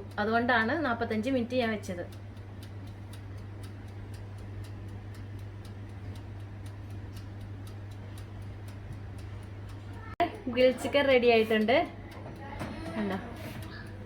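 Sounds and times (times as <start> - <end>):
mechanical timer ticking: 0.0 - 14.0
oven humming: 0.0 - 14.0.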